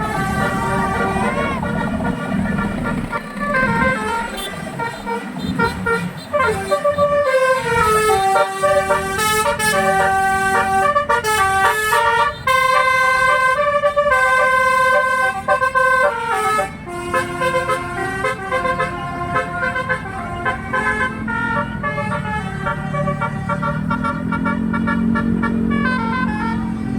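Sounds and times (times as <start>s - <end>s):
musical air horn notes: 0.0s - 26.9s.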